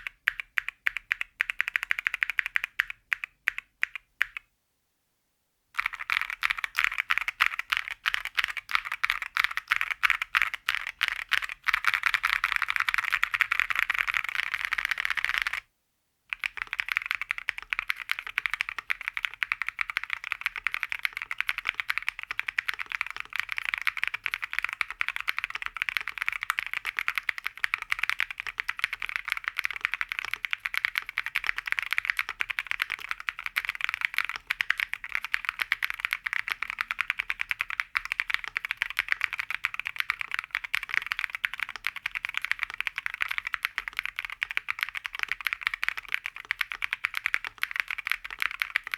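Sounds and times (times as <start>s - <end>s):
mechanical keyboard typing: 0.0s - 4.4s, 5.8s - 15.6s, 16.3s - 48.9s.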